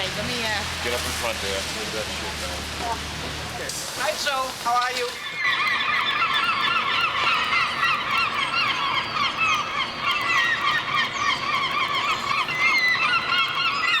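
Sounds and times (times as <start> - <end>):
flock of birds chirping: 0.0 - 14.0.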